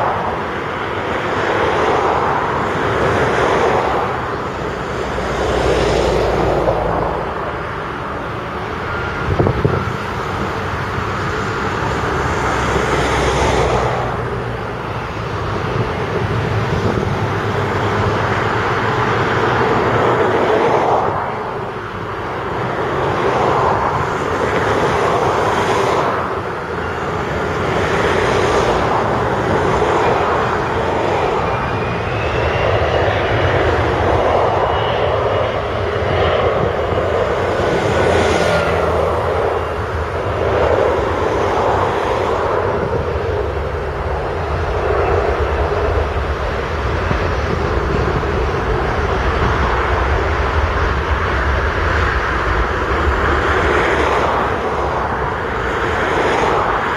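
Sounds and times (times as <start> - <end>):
diesel engines running under load: 0.0 - 56.9.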